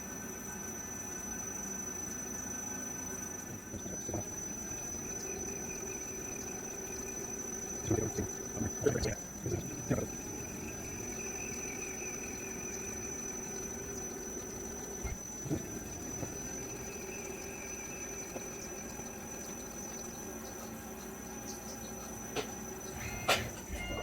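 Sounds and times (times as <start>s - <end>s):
high-pitched machine whine: 0.0s - 24.0s.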